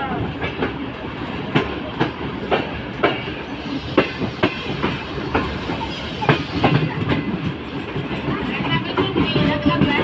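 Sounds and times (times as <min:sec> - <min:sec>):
train rumble: 0:00.0 - 0:10.0
train wheels clacking: 0:00.1 - 0:10.0.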